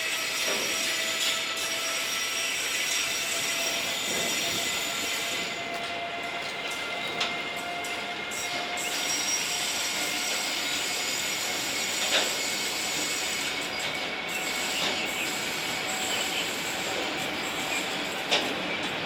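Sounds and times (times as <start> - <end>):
train rolling past: 0.0 - 19.0
wheels squealing on rails: 0.0 - 19.0.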